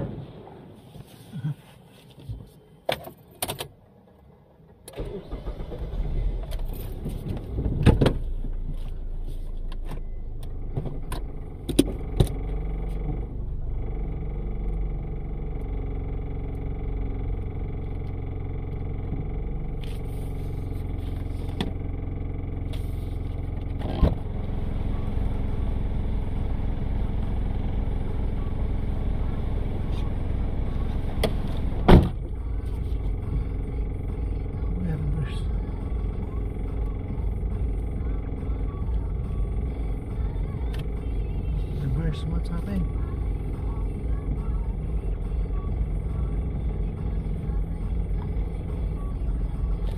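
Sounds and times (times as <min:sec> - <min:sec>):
car engine idling: 0:03.8 - 0:49.9.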